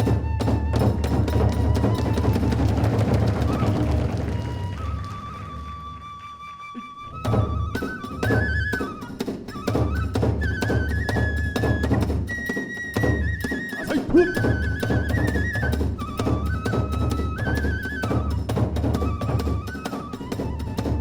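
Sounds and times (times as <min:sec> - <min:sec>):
drum strokes: 0:00.0 - 0:05.3, 0:07.1 - 0:21.0
bamboo flute melody: 0:00.0 - 0:21.0.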